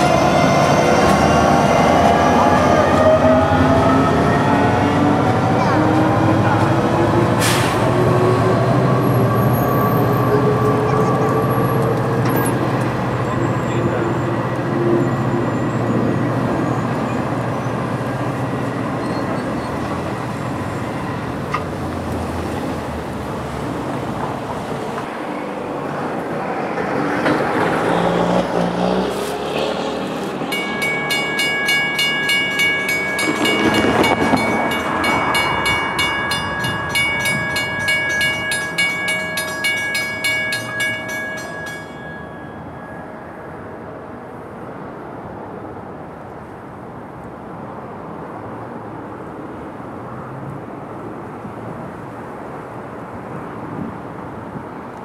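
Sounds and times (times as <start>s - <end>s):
diesel train passing: 0.0s - 55.0s.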